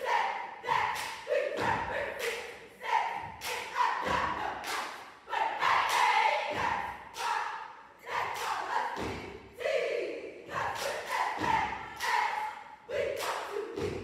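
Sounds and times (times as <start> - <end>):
group chanting in unison: 0.0 - 14.0.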